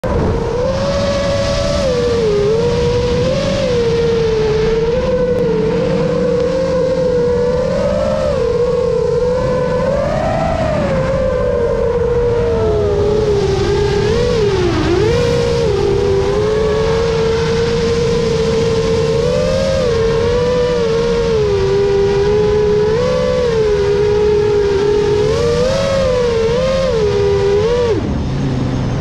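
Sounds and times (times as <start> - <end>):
model aircraft motor whine: 0.0 - 29.0
wind rumble on microphone: 0.0 - 29.0.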